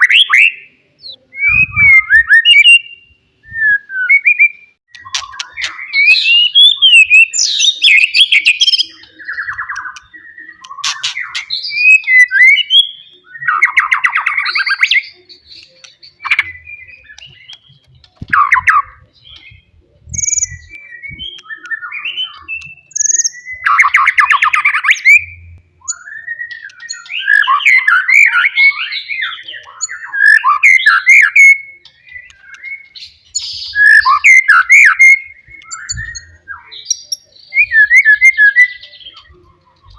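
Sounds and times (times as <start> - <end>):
songbird singing loudly: 0.0 - 39.9.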